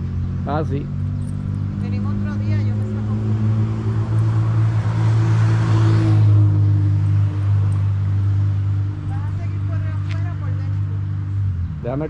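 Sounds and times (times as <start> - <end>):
low engine hum: 0.0 - 12.0
vehicle passing by: 0.0 - 12.0.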